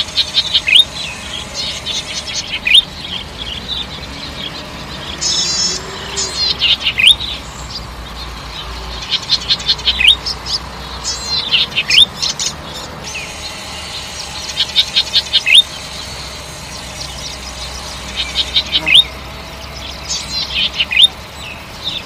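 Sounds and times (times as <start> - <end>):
bird buzzy trill: 0.0 - 22.0.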